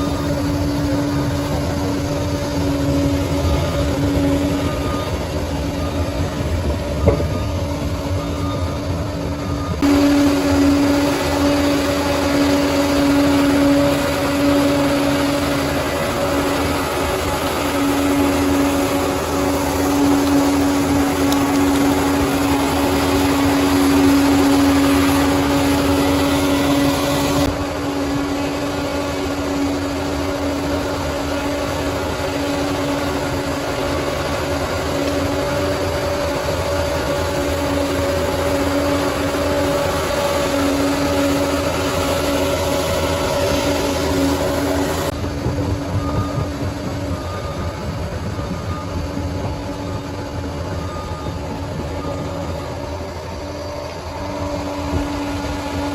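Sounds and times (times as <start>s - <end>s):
bulldozer diesel engine droning: 0.0s - 55.9s.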